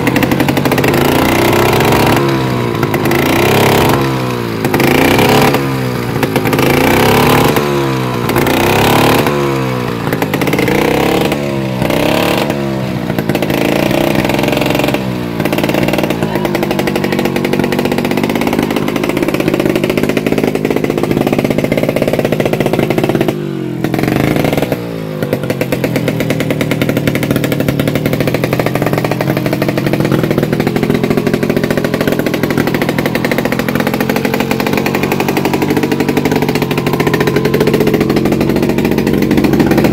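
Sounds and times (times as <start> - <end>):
scooter engine revving: 0.0 - 39.9.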